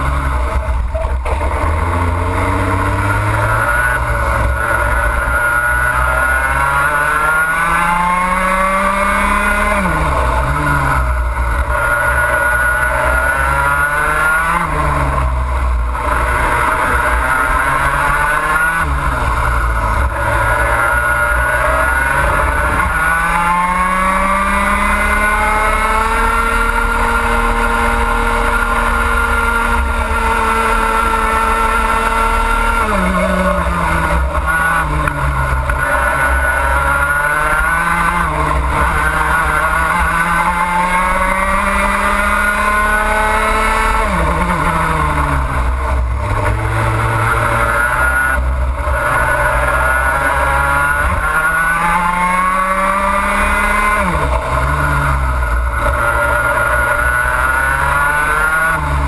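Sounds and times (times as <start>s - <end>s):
kart engine racing: 0.0s - 59.0s.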